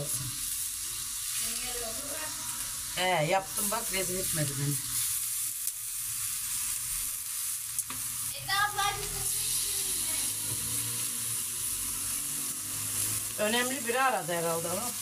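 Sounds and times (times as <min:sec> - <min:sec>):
vegetables sizzling on griddle: 0:00.0 - 0:15.0.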